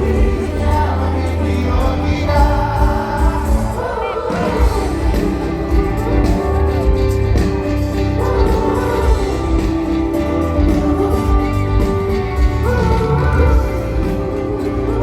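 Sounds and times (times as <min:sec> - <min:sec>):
pulsing bass music: 0:00.0 - 0:03.9, 0:04.5 - 0:15.0
person singing: 0:00.0 - 0:15.0.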